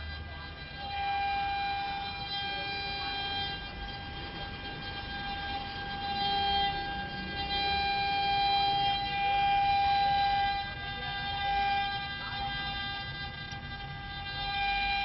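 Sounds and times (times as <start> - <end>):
cnc router spindles whining: 0.0 - 15.0
router cutting noise: 0.0 - 15.0.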